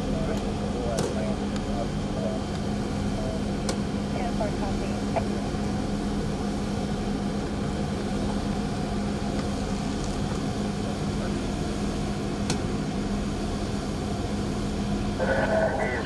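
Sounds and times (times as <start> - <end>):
idling vehicle engines: 0.0 - 16.0.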